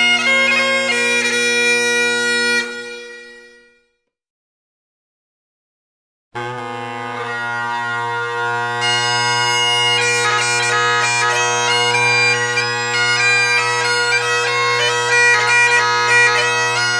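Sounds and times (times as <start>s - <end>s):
bagpipe drones: 0.0s - 3.8s, 6.4s - 16.9s
bagpipe chanter melody: 0.0s - 3.9s, 6.4s - 16.9s.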